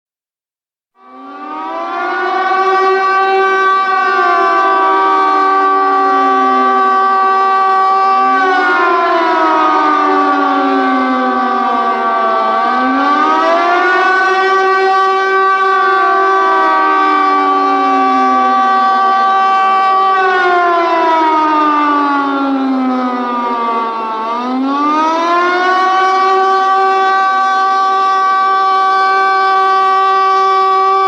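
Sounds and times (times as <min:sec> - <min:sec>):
air raid siren wailing: 0:01.0 - 0:31.0.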